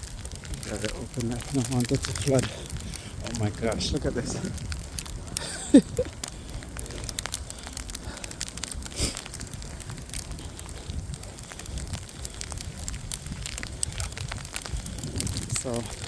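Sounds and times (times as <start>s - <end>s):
irregular crackling ticks: 0.0s - 16.0s
wind rumble on microphone: 0.0s - 16.0s.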